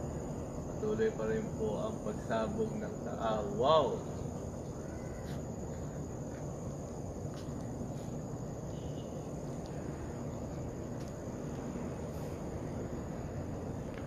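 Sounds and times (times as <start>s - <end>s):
crickets trilling: 0.0s - 14.0s
low background noise: 0.0s - 14.0s.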